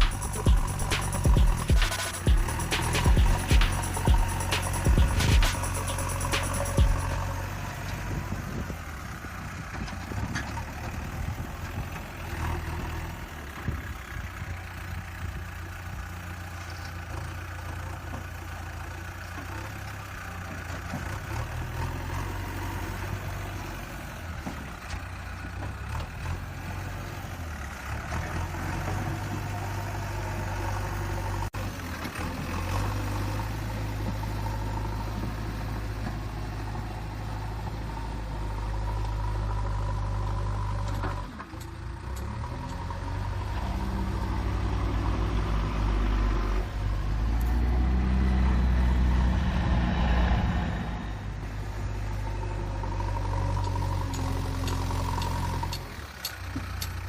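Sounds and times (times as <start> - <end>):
heavy vehicle engine idling: 0.0 - 57.0.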